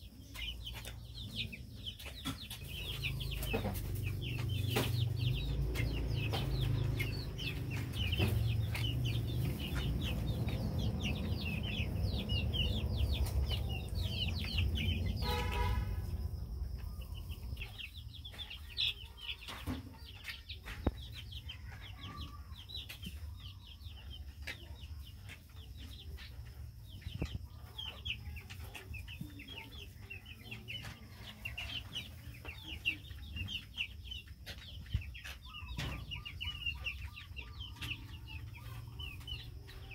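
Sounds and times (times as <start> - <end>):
chicks cheeping: 0.0 - 39.9.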